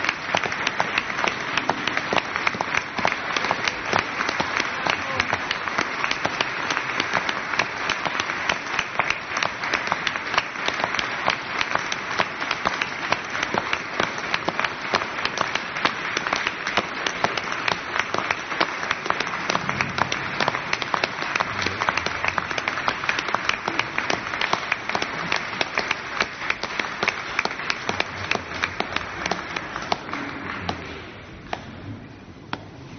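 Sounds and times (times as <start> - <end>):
audience applauding: 0.0 - 31.8.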